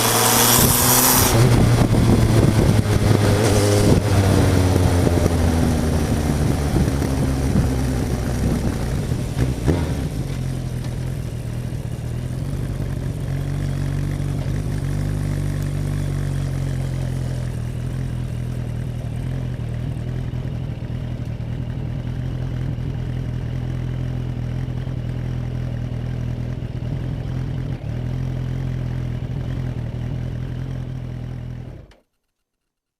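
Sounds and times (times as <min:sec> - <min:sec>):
motorcycle engine slowing down: 0:00.0 - 0:32.1.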